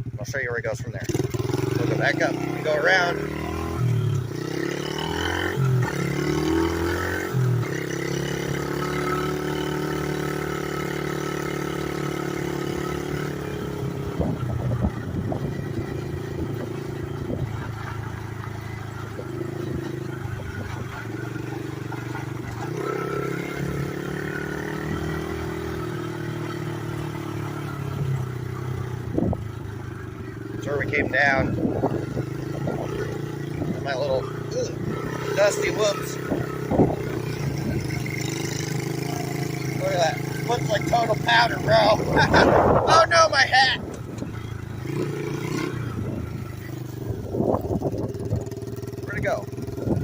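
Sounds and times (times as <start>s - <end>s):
small motorbike engine revving: 1.0s - 50.0s.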